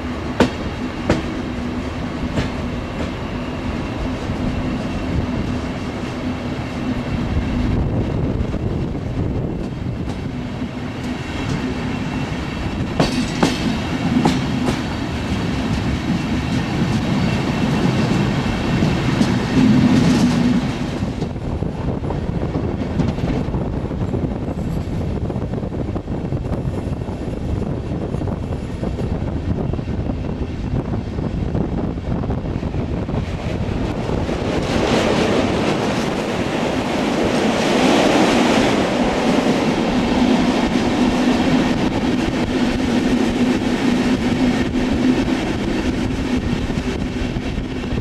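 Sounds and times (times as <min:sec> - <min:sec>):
train wheels clattering over rails: 0:00.0 - 0:31.4, 0:32.4 - 0:48.0
wind rushing: 0:00.0 - 0:48.0.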